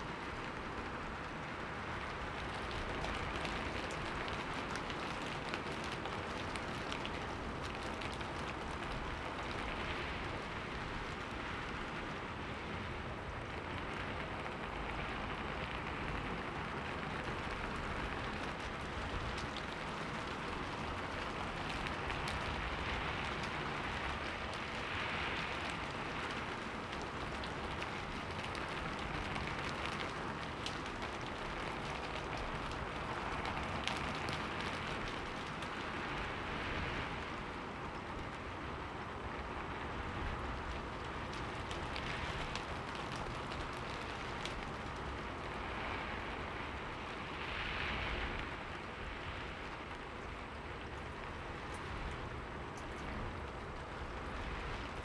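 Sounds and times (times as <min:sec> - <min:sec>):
rain against a window: 0:00.0 - 0:55.0.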